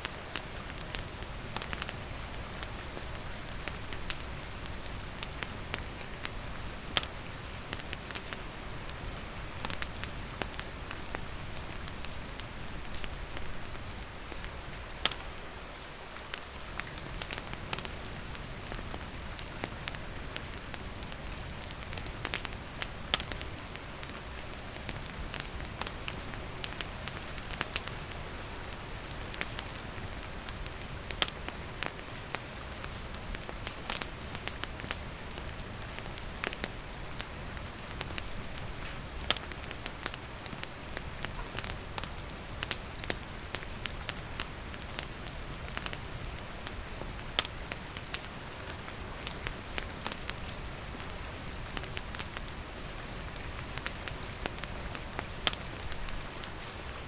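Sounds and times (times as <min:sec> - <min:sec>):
campfire crackling and popping: 0:00.0 - 0:15.4, 0:16.2 - 0:57.0.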